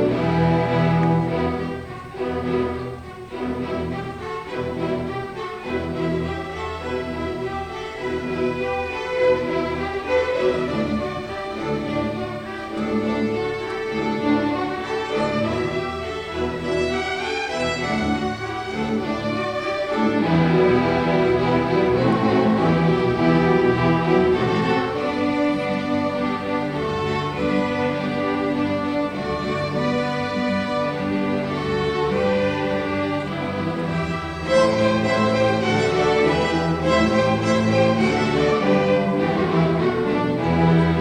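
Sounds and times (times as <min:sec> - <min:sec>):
string orchestra playing: 0:00.0 - 0:41.0.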